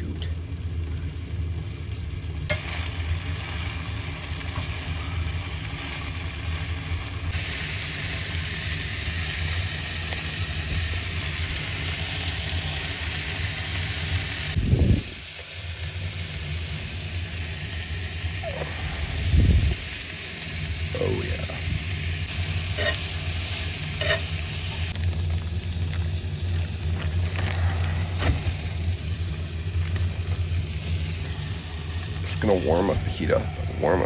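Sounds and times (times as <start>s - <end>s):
steady low hum: 0.0s - 34.0s
meat sizzling in a frying pan: 0.1s - 34.0s.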